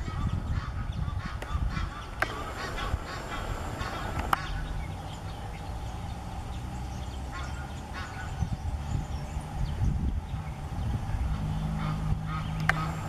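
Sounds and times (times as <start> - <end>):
birds calling: 0.0 - 13.0
low hum: 0.0 - 13.0.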